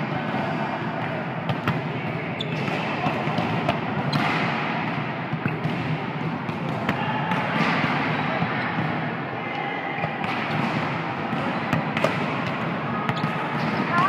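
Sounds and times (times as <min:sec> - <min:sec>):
gymnasium background din: 0:00.0 - 0:14.0
volleyballs slapping and bouncing: 0:00.0 - 0:14.0.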